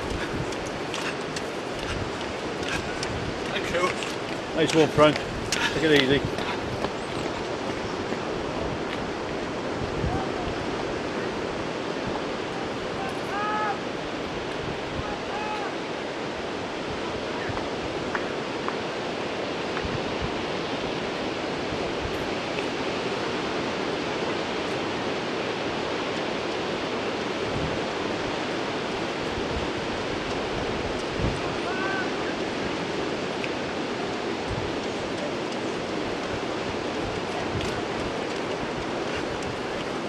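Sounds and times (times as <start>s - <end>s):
sea surf: 0.0s - 40.0s
wind: 0.0s - 40.0s.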